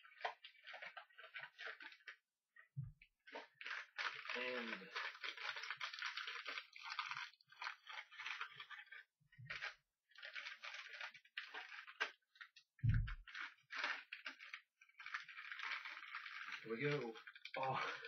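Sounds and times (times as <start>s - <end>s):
packaging crinkling and tearing: 0.0s - 2.2s, 3.3s - 18.0s.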